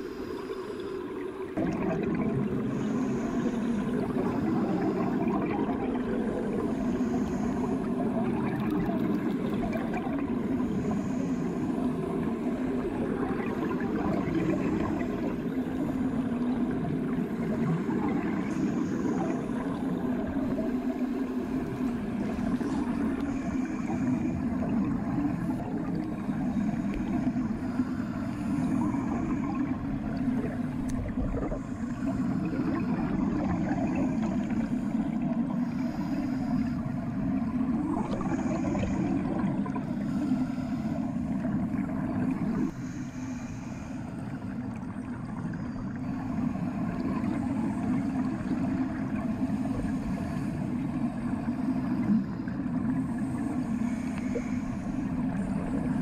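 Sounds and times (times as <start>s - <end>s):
muffled underwater rumble: 0.0s - 56.0s
soft water gurgling: 0.0s - 56.0s.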